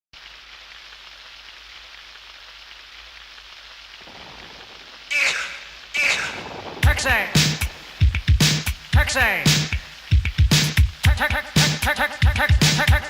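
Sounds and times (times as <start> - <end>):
steady rain falling: 0.2 - 13.0.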